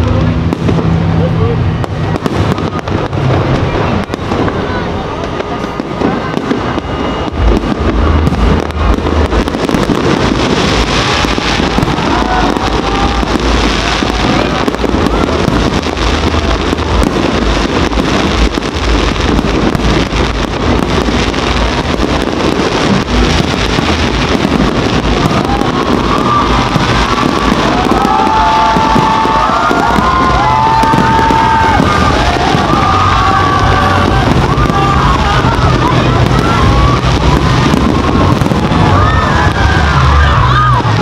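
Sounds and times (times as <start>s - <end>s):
deep rumble: 0.0s - 41.0s.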